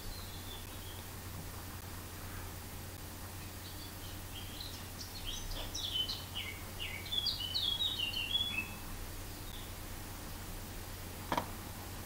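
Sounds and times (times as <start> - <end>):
small birds chirping: 0.0 - 9.9
faint low hum: 0.0 - 12.0.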